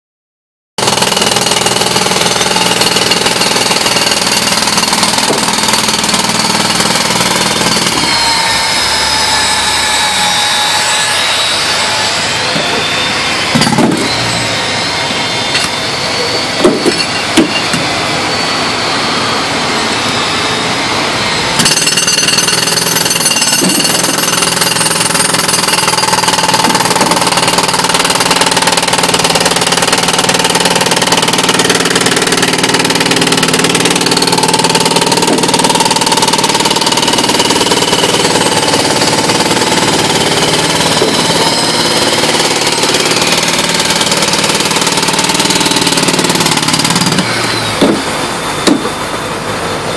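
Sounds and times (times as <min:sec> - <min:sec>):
jackhammer breaking concrete: 0:00.8 - 0:49.1.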